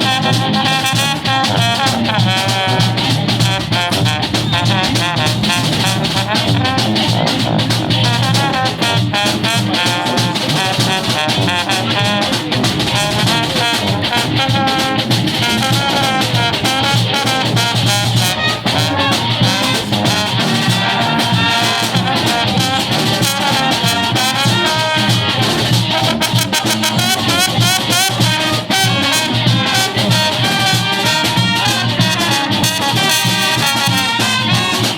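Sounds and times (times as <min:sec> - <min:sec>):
brass band playing: 0:00.0 - 0:34.9.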